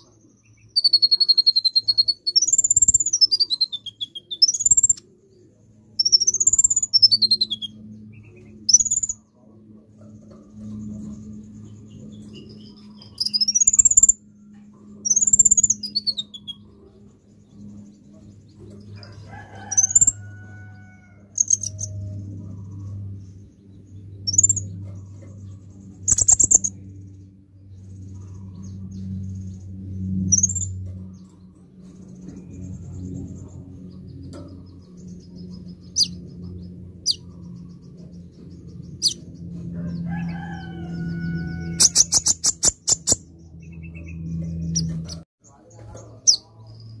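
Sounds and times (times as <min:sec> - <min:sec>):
bird chirping: 0:00.0 - 0:14.4, 0:15.0 - 0:47.0
steady low hum: 0:00.0 - 0:47.0.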